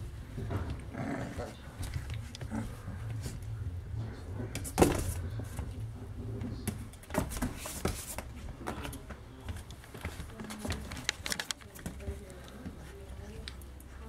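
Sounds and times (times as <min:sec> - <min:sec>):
puppies scuffling and wrestling: 0:00.0 - 0:14.0.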